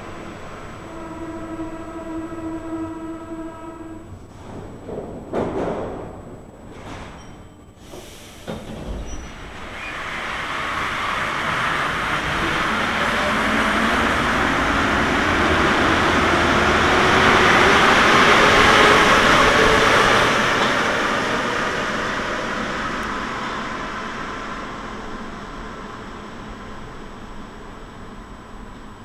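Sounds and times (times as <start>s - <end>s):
train pulling out rushing: 0.0s - 4.9s, 7.8s - 29.0s.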